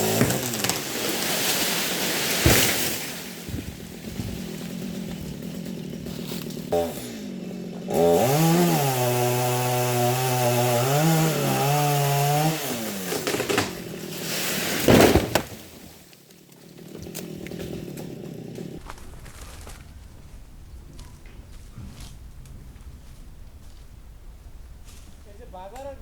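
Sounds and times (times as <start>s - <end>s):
chainsaw revving: 0.0s - 15.5s, 16.5s - 23.7s.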